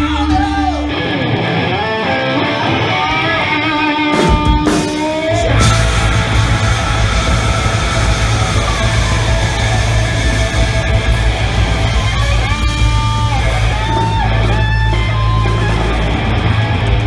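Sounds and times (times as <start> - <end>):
rock band playing: 0.0 - 17.0
sliding pitched guitar notes: 0.9 - 17.0.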